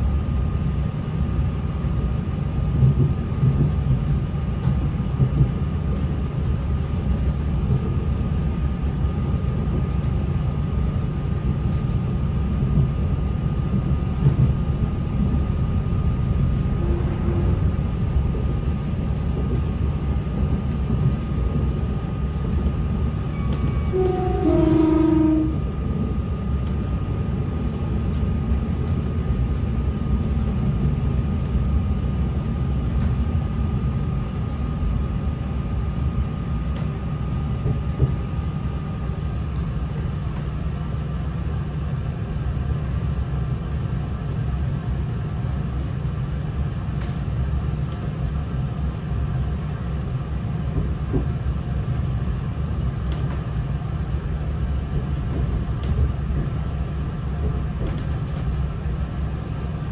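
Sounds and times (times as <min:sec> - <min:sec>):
train diesel engine rumble: 0:00.0 - 0:59.9.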